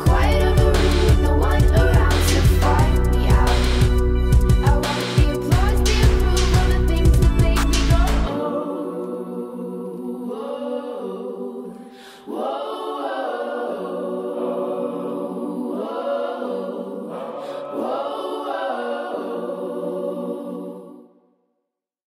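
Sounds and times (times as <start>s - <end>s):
choir singing: 0.0s - 21.2s.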